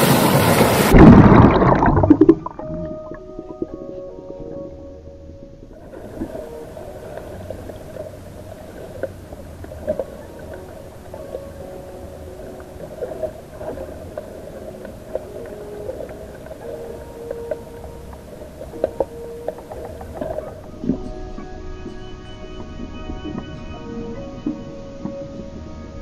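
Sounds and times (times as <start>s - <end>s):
muffled underwater hum: 0.8s - 26.0s.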